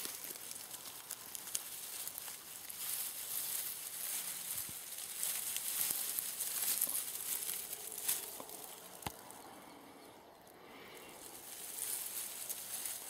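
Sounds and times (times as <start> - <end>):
wheat stalks rustling: 0.0 - 9.8, 10.4 - 13.0.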